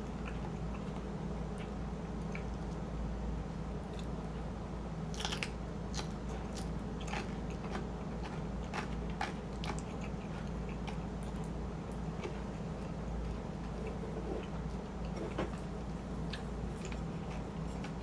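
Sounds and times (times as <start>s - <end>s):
close chewing and mouth clicks: 0.0s - 2.8s, 5.1s - 18.0s
steady low hum: 0.0s - 18.0s.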